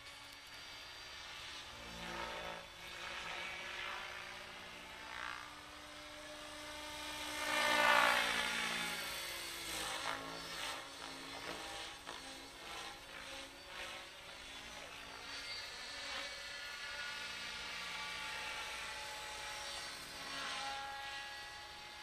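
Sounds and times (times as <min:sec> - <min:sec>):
rc helicopter rotor whining: 0:00.0 - 0:22.0.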